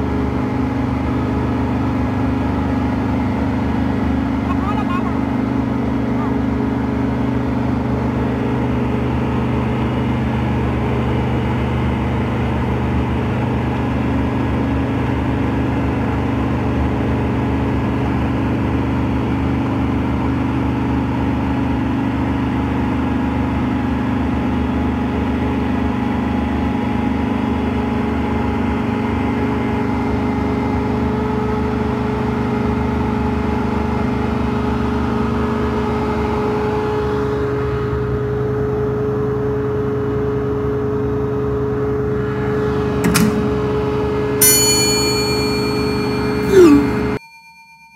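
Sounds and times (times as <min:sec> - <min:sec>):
milling machine diesel engine drone: 0:00.0 - 0:47.2.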